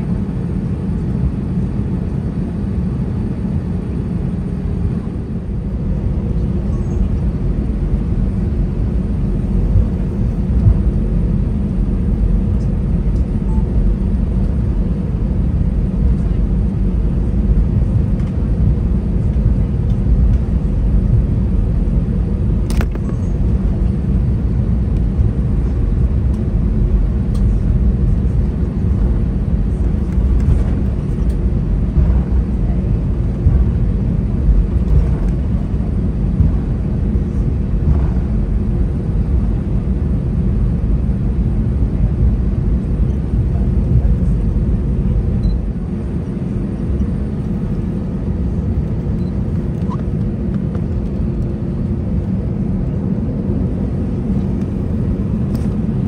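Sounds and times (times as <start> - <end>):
aircraft engines rumbling: 0.0 - 56.0.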